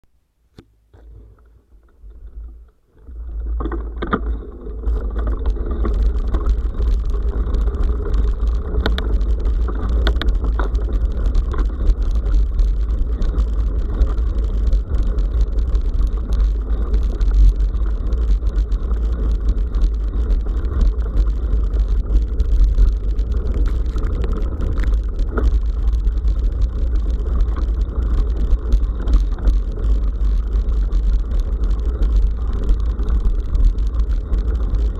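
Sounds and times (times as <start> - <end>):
bicycle tyres on gravel: 1.0 - 34.9.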